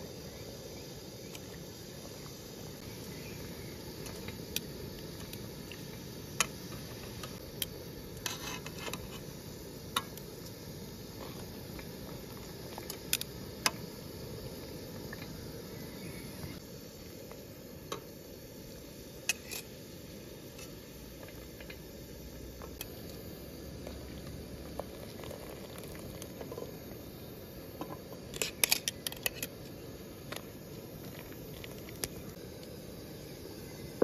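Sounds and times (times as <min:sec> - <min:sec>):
low background hiss: 0:00.0 - 0:34.0.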